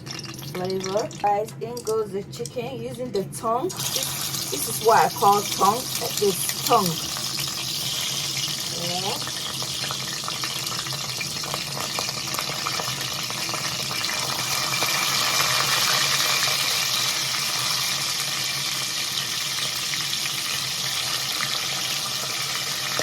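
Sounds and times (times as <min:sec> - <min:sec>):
chicken frying in oil: 0:00.0 - 0:02.0, 0:03.7 - 0:23.0.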